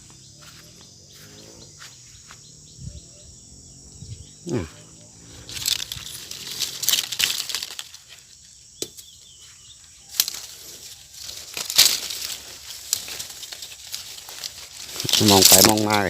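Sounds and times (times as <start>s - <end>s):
leaves and twigs rustling: 0.0s - 2.6s, 4.2s - 16.0s.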